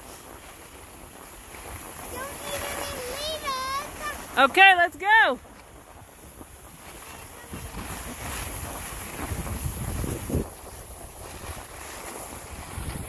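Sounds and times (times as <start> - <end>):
skis sliding over packed snow: 0.0 - 13.0
wind rushing over microphone: 0.0 - 13.0.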